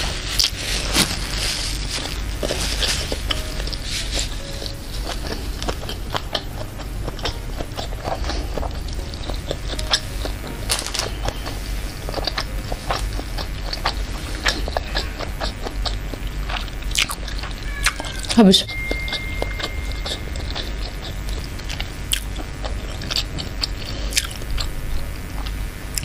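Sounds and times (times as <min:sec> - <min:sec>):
person chewing with wet clicks: 0:02.0 - 0:24.7.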